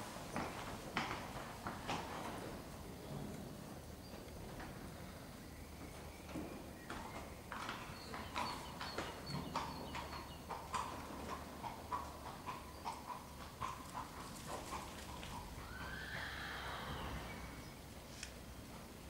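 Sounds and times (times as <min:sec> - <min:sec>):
horse hoofbeats trotting on sand: 0:00.0 - 0:05.0, 0:05.7 - 0:16.9.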